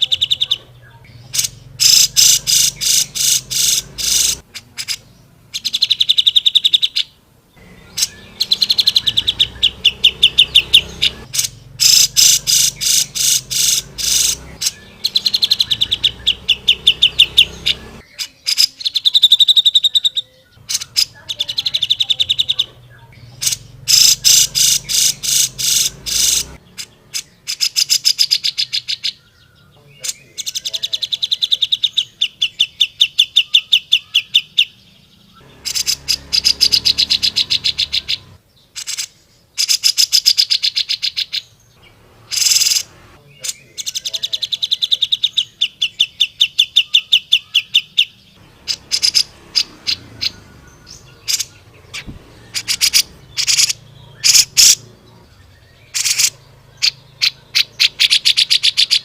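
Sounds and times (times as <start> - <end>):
bulbul chattering song: 0.0 - 59.0.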